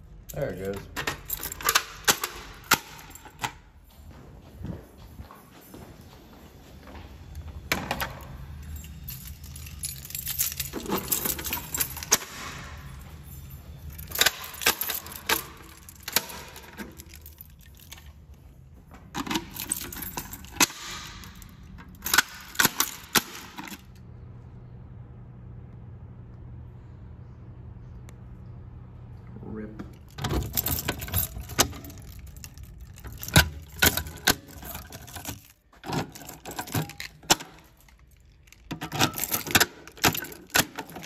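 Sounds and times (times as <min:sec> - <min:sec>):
steady low hum: 0:00.0 - 0:41.0
metallic clatter and jingling: 0:00.3 - 0:24.0, 0:29.8 - 0:41.0.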